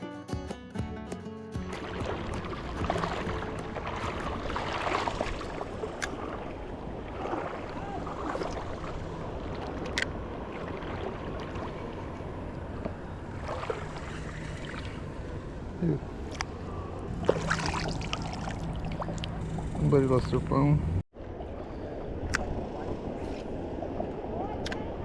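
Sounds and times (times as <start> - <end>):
river water sloshing and splashing: 1.6 - 20.4, 21.2 - 25.0.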